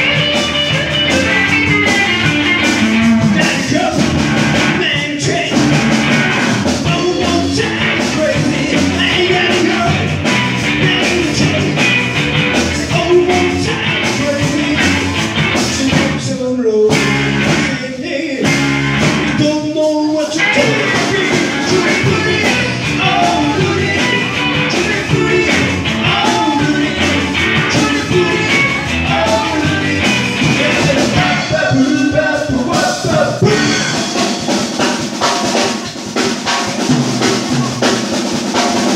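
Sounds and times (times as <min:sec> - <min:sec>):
rock and roll band playing: 0:00.0 - 0:38.9.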